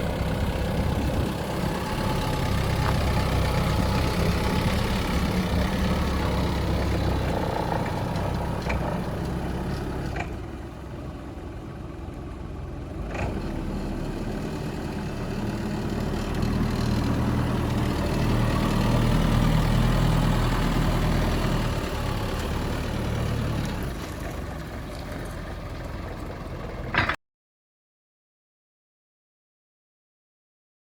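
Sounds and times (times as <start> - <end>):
industrial truck motor hum: 0.0 - 27.2.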